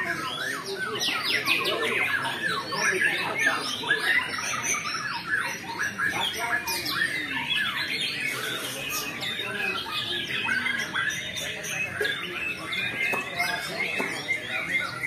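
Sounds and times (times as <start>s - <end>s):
birds singing whistles and trills: 0.0s - 15.0s.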